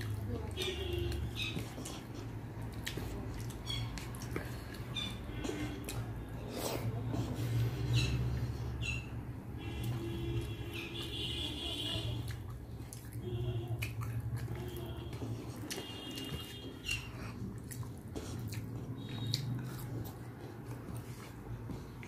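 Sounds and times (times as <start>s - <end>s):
mouthful being chewed: 0.0s - 22.0s.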